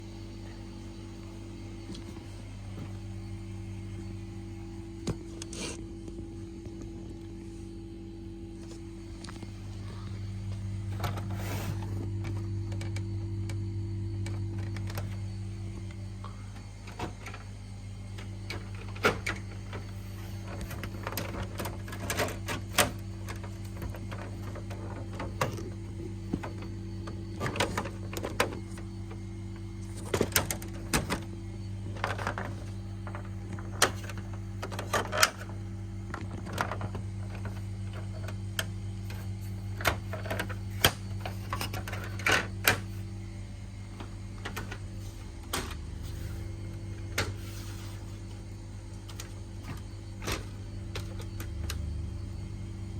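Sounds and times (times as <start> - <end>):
air conditioner humming: 0.0 - 52.9.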